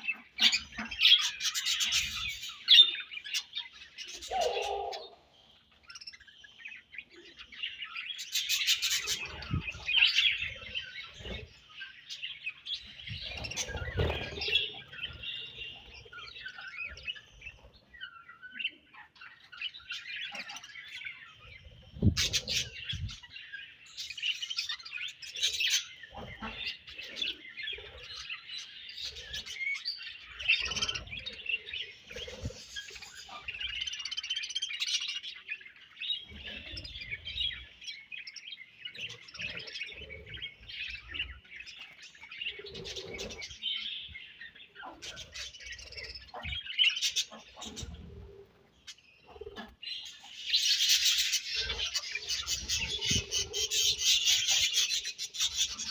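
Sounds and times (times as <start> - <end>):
budgerigars chirping and warbling: 0.0 - 55.9.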